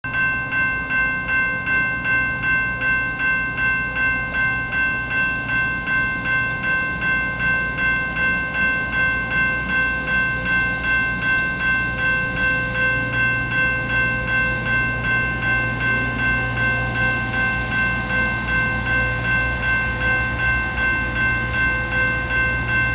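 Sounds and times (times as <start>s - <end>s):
railroad crossing bell ringing: 0.0s - 22.9s
low hum of approaching train: 0.1s - 22.9s.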